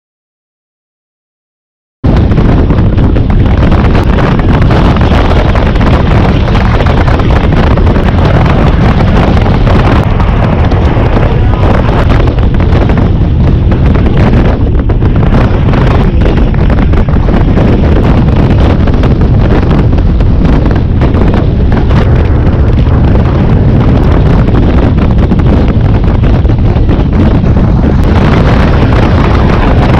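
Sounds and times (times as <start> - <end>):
wind buffeting microphone: 2.0 - 29.9
motorcycle riding noise: 2.1 - 29.9.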